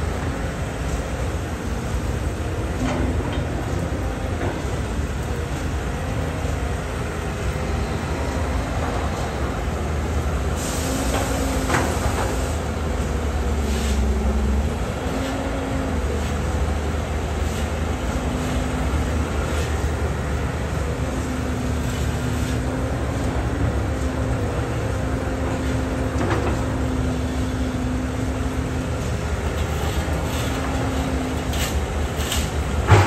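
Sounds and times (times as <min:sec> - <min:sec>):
excavator diesel engine rumbling: 0:00.0 - 0:33.0.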